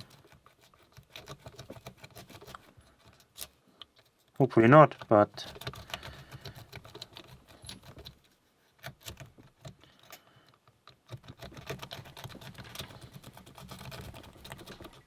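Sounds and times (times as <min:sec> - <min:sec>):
lock pick clicking and scraping: 0:00.0 - 0:15.0.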